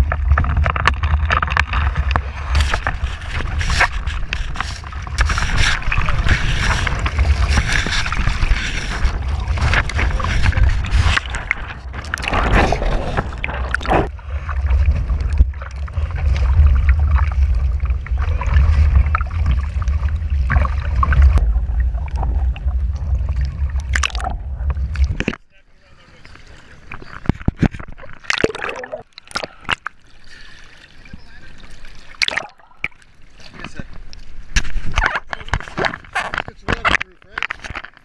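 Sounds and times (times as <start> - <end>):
water sloshing and splashing: 0.0 - 38.0.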